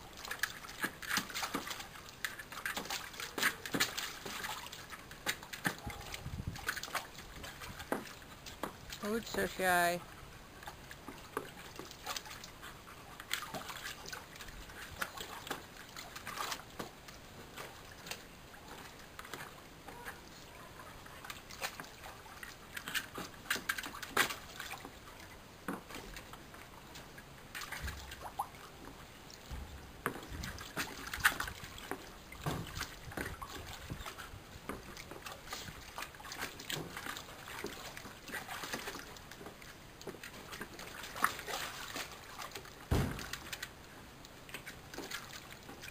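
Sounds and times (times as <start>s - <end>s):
dog wading in water: 0.0s - 45.9s
water sloshing and splashing: 0.0s - 45.9s.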